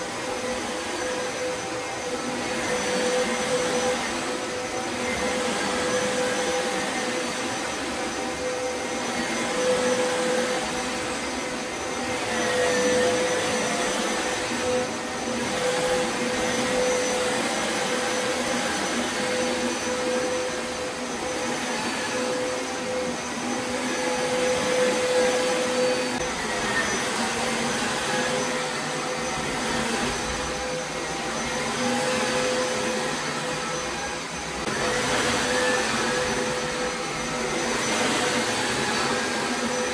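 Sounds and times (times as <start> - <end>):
carpet shampooer running: 0.0 - 39.9
whining tone: 0.0 - 39.9.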